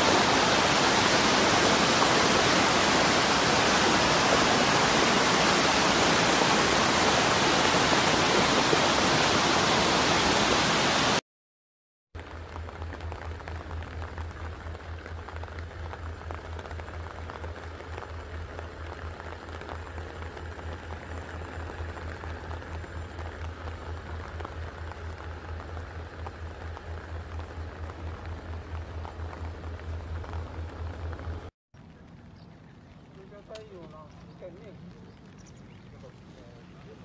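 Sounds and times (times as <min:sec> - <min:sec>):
low pulsing vehicle drone: 0:00.0 - 0:11.2, 0:12.2 - 0:37.0.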